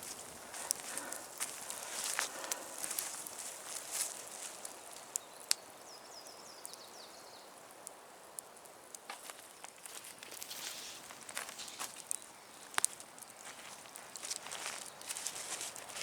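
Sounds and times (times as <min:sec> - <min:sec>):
rustling in dry leaves and twigs: 0:00.0 - 0:05.9, 0:09.0 - 0:16.0.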